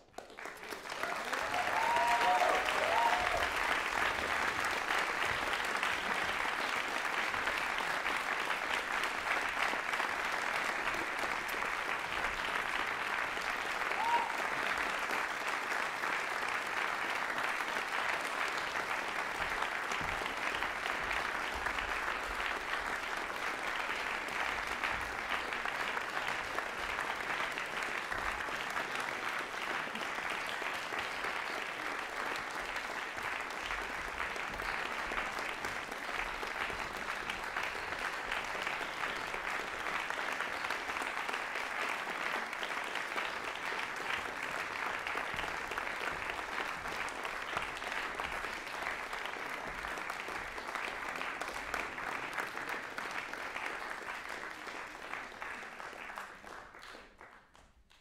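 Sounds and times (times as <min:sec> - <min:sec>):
audience applause: 0:00.0 - 0:58.0.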